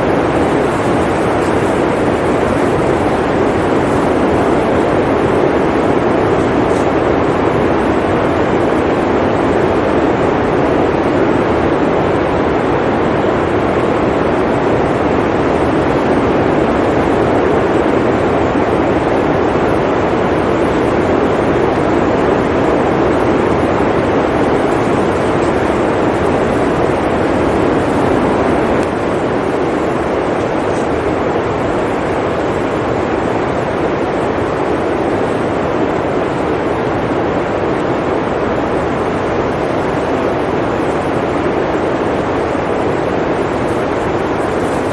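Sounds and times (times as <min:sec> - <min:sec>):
blizzard wind blowing: 0:00.0 - 0:44.9.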